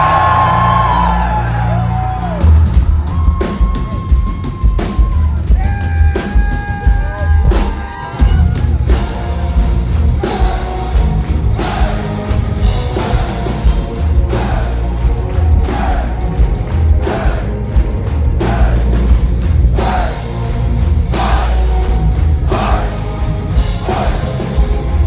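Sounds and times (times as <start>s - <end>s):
metal band playing live: 0.0s - 25.0s.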